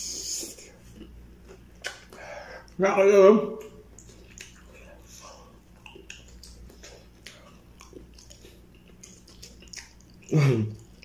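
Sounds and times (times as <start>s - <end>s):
person chewing food: 0.0s - 2.8s, 3.6s - 11.0s.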